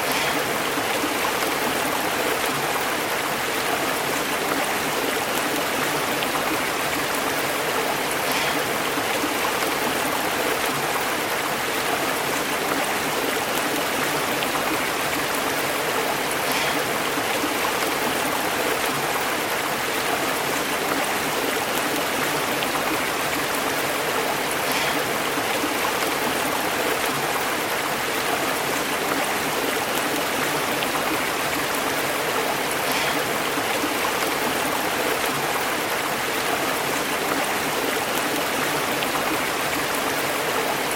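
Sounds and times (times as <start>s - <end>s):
stream bubbling over rocks: 0.0s - 40.9s.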